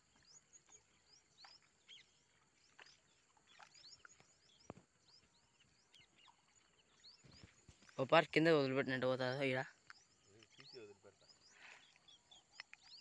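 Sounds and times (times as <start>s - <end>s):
faint small bird chirping: 0.0s - 8.0s, 9.4s - 13.0s.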